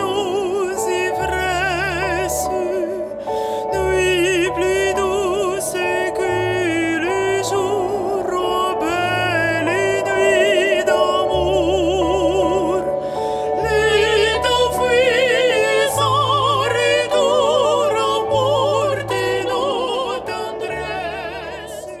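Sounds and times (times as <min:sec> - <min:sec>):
operatic voice singing: 0:00.0 - 0:22.0.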